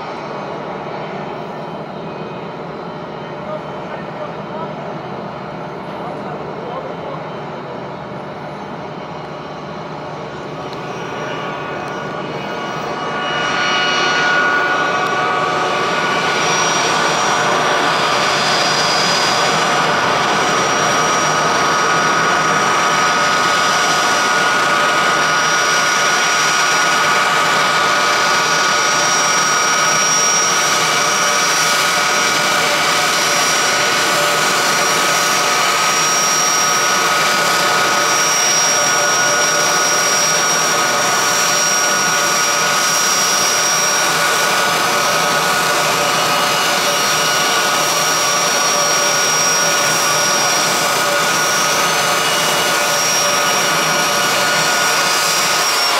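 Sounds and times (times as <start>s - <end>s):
jet engines whining at taxi power: 0.0s - 55.9s.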